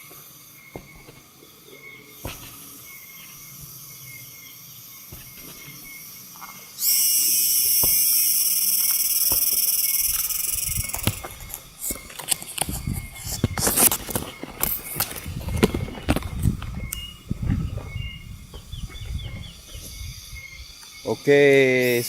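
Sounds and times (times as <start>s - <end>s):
high-pitched insect buzz: 0.0s - 22.0s
rustling leaves and branches: 0.0s - 22.0s.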